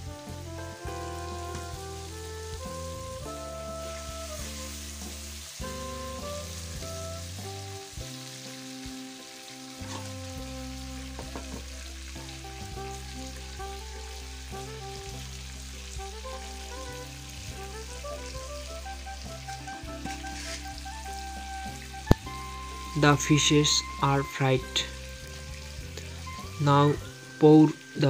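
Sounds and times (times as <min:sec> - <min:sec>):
background music with held notes: 0:00.0 - 0:28.0
fish sizzling in hot oil: 0:00.0 - 0:28.0.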